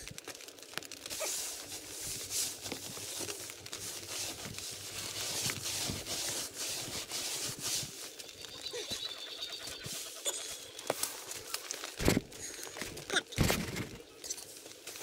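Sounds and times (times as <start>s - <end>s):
tent fabric rustling and crinkling: 0.0s - 15.0s.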